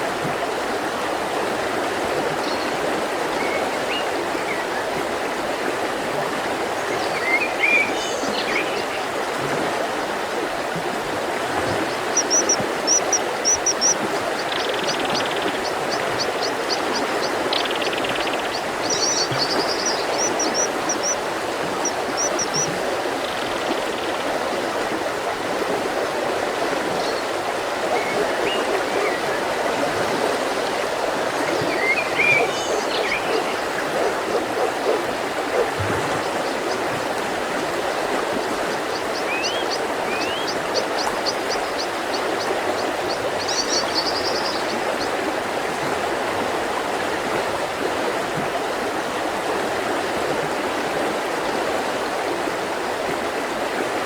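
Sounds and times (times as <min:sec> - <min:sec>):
river flowing over rocks: 0:08.5 - 0:54.0.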